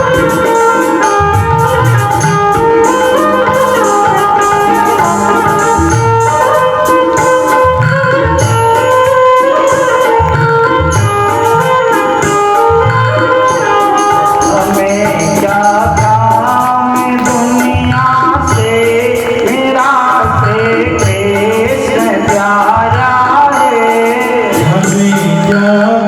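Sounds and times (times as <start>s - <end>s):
melody instruments playing: 0.0s - 26.0s
steady drum beat: 0.0s - 26.0s.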